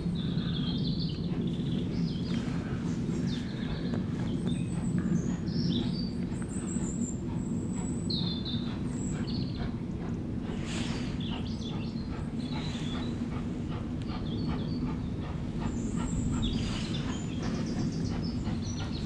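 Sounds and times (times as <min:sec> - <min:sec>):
small birds chirping: 0:00.0 - 0:19.0
steam locomotive rumble: 0:00.0 - 0:19.0.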